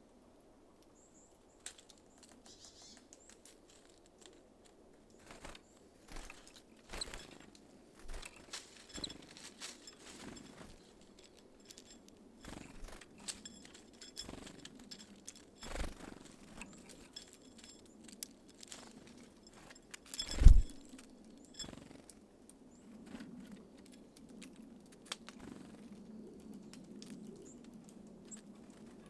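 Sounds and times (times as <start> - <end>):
birds pecking and scratching on feeder: 1.6 - 22.2, 23.0 - 29.0.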